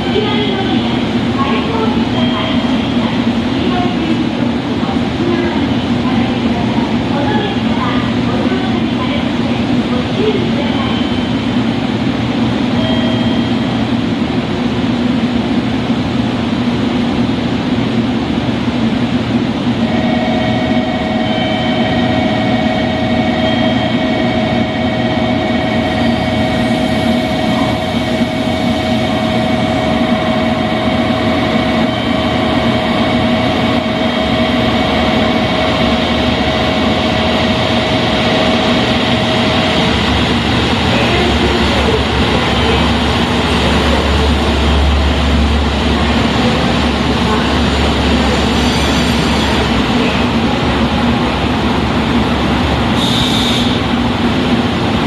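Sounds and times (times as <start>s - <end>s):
diesel train mechanical noise: 0.0s - 55.0s.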